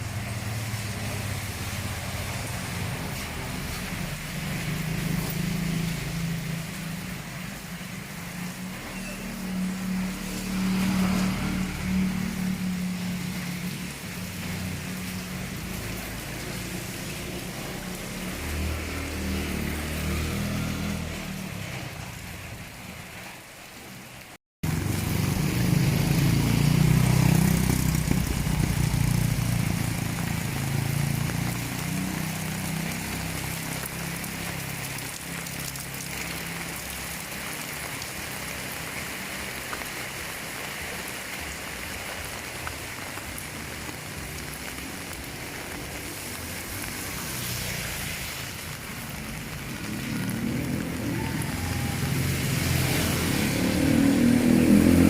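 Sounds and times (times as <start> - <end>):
vehicle engine passing by: 0.0 - 23.3, 24.6 - 41.6, 42.9 - 55.0
steady rain falling: 0.0 - 55.0.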